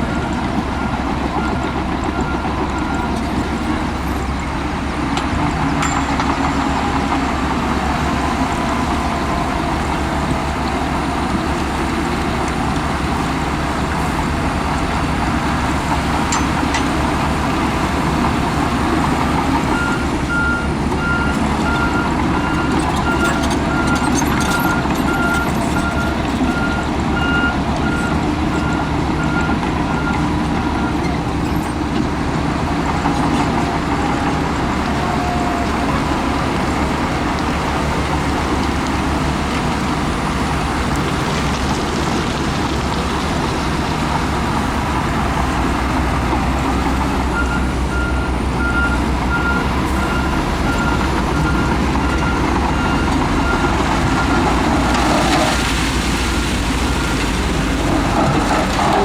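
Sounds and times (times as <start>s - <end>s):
heavy diesel machines running: 0.0s - 59.0s.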